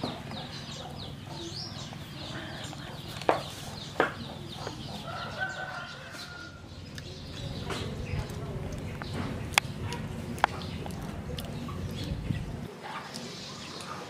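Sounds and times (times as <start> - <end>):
chickens clucking: 0.0 - 14.0
small birds chirping: 0.0 - 14.0.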